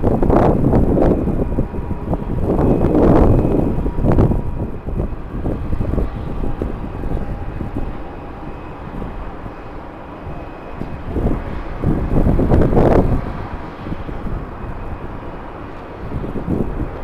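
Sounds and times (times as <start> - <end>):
faint steady whine: 0.0 - 17.0
jet engines rumbling: 0.0 - 17.0
wind buffeting microphone: 0.0 - 17.0.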